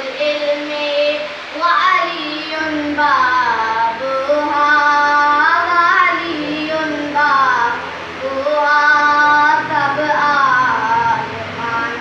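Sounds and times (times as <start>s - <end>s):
boy singing devotional song: 0.0s - 12.0s.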